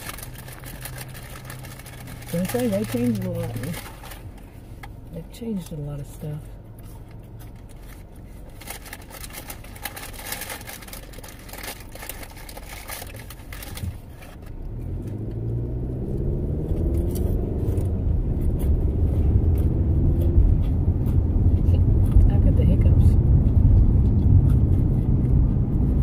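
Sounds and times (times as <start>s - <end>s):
car engine accelerating: 0.0s - 26.0s
low road noise: 0.0s - 26.0s.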